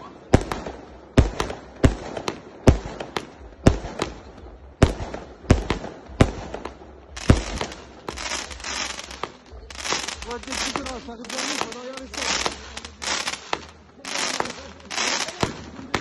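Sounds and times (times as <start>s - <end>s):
fireworks banging: 0.0s - 16.0s
fireworks crackling: 0.0s - 16.0s.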